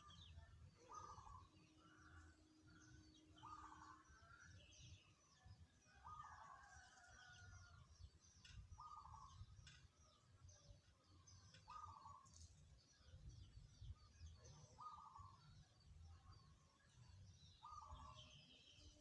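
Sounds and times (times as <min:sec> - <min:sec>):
small birds chirping faintly: 0:00.0 - 0:19.0.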